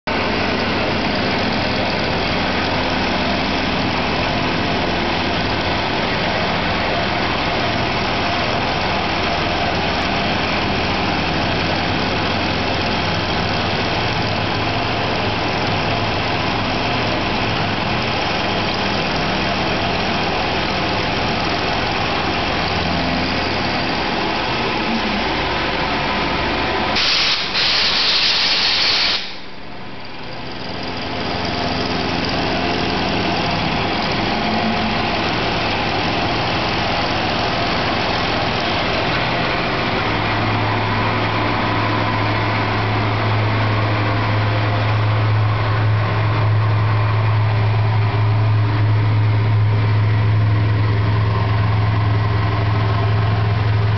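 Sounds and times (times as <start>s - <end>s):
milling machine droning: 0.1s - 27.7s, 29.5s - 53.9s.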